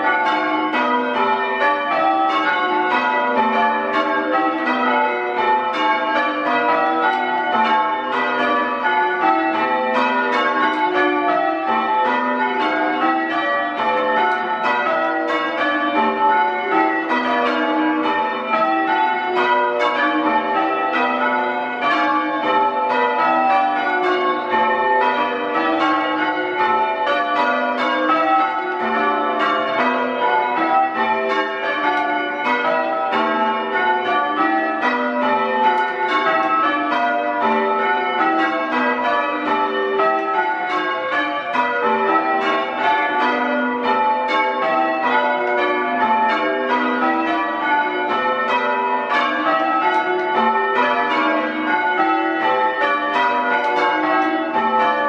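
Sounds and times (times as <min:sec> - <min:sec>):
church bells change ringing: 0:00.0 - 0:55.0.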